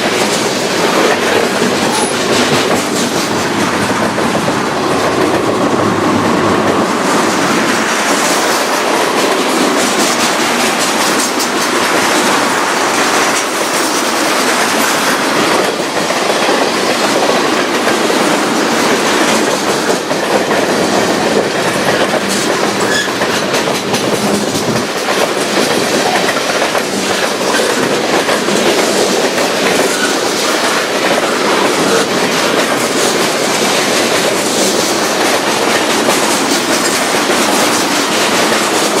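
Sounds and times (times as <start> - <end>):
freight train rolling past: 0.0 - 39.0
steel wheels clicking over rails: 0.0 - 39.0.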